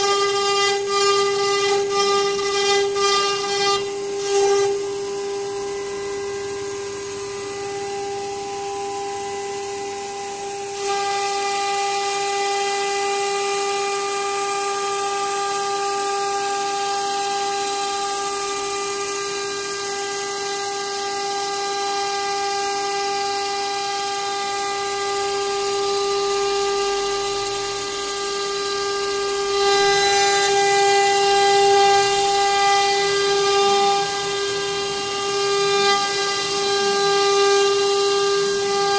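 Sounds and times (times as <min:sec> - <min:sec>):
hiss of wood cutting: 0:00.0 - 0:38.9
router spindle whining: 0:00.0 - 0:38.9.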